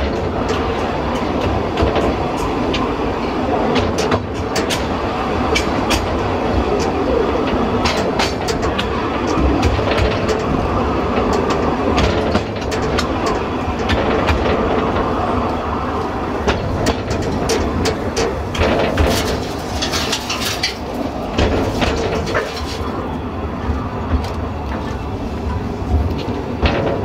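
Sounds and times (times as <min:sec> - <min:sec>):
clicks over rail joints: 0:00.0 - 0:27.0
train wheel rumble: 0:00.0 - 0:27.0.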